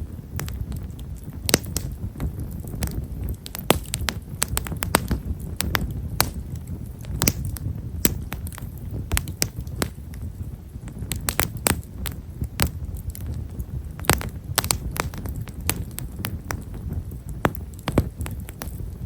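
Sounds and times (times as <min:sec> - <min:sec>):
campfire crackling and popping: 0:00.0 - 0:19.0
low rumble: 0:00.0 - 0:19.0.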